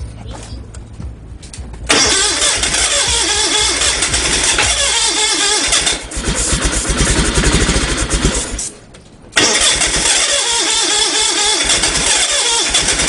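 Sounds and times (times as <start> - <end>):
electric starter cranking engine: 1.9 - 8.7, 9.4 - 13.0.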